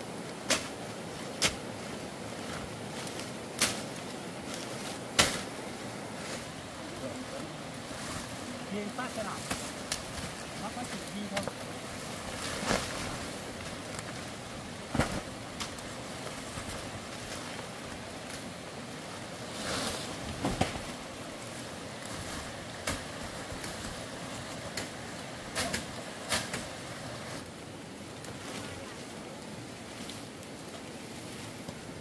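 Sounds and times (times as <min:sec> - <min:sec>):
steady background hiss: 0:00.0 - 0:32.0
tree branches rustling and dragging: 0:00.0 - 0:32.0.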